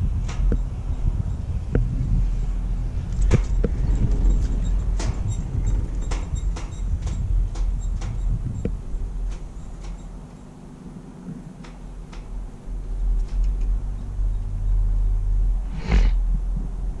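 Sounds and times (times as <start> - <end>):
chairlift rumbling: 0.0 - 17.0
wind rumble on microphone: 0.0 - 17.0.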